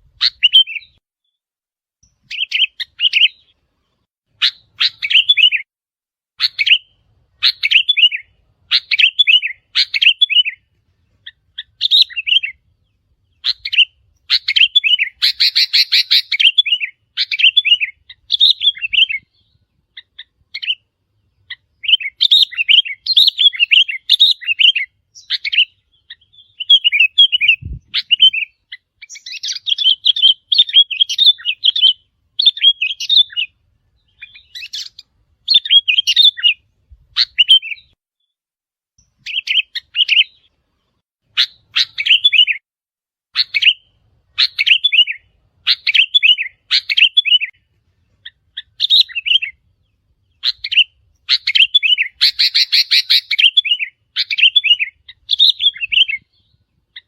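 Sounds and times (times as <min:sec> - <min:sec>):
bulbul chirping song: 0:00.0 - 0:01.4, 0:02.0 - 0:05.7, 0:06.4 - 0:38.3, 0:39.0 - 0:42.6, 0:43.3 - 0:57.0.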